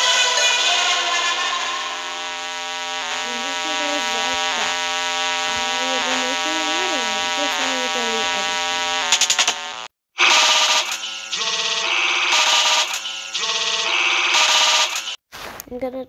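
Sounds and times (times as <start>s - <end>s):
layered drone: 0.0s - 14.9s.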